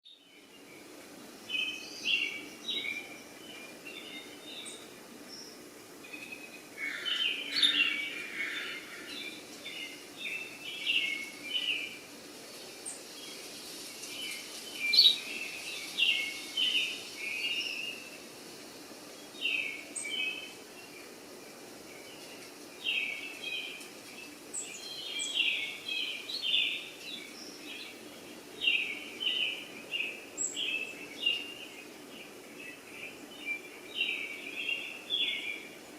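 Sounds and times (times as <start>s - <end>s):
birds chirping: 0.1s - 35.9s
faint steady background noise: 0.1s - 35.9s.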